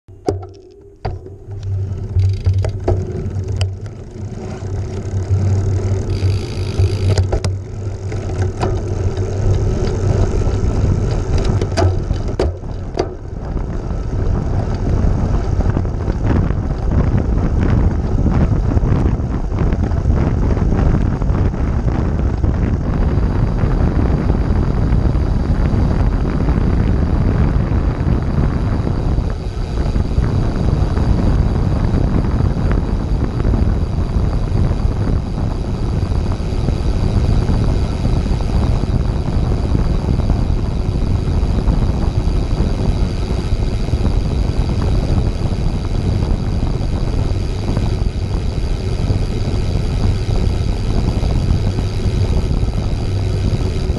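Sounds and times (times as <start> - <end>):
bike tyre noise: 0.0 - 53.9
wind rumble on microphone: 0.0 - 53.9
freewheel ticking: 0.1 - 53.9.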